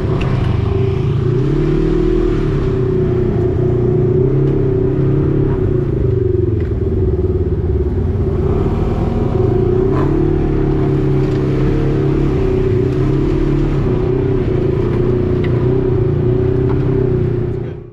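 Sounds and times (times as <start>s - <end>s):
utv engine droning: 0.0s - 17.9s.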